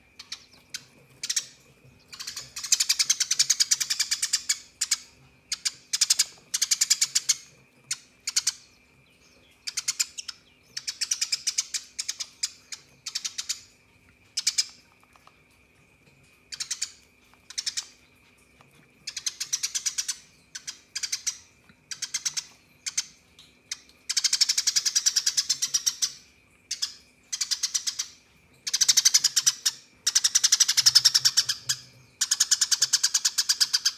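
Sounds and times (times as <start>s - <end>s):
sparrows chattering: 0.0s - 15.4s, 16.2s - 33.9s.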